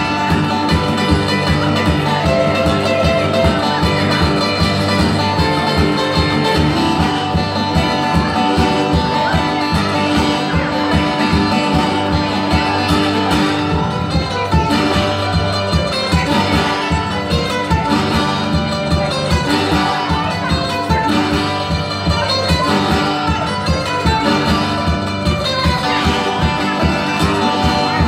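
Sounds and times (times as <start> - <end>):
blues resonator guitar: 0.0 - 28.0.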